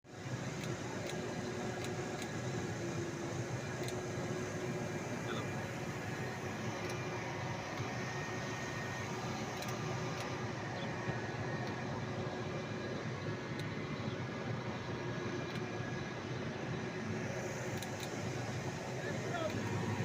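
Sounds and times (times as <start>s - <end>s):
engine droning: 0.1s - 20.0s.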